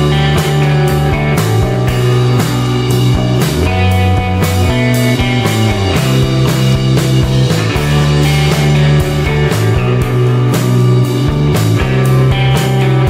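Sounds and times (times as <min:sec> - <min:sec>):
rock music with guitar: 0:00.0 - 0:13.0
steady drum beat: 0:00.0 - 0:13.0.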